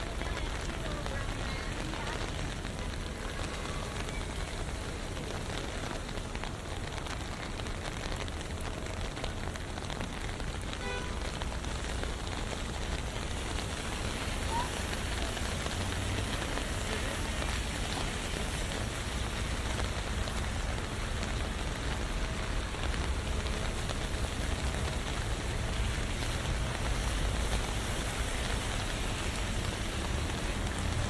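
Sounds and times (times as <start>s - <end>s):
rain on an umbrella: 0.0s - 31.0s.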